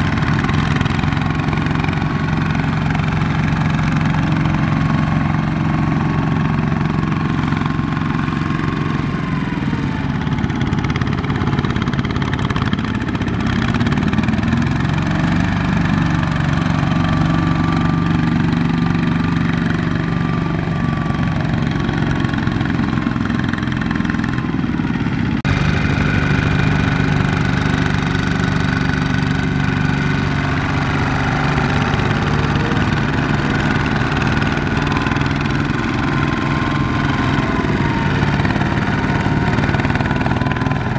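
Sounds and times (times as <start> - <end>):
diesel tractor engines running: 0.0 - 40.9.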